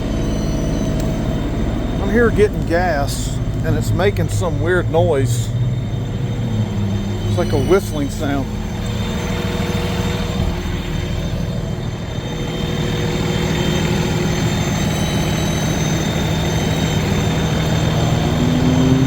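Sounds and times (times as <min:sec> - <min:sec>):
diesel engine droning: 0:00.0 - 0:19.0
high-pitched belt squeal: 0:00.0 - 0:19.0.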